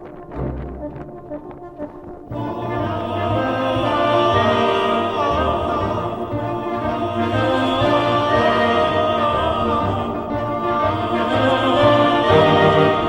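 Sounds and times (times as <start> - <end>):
orchestra with choir: 2.3 - 13.0.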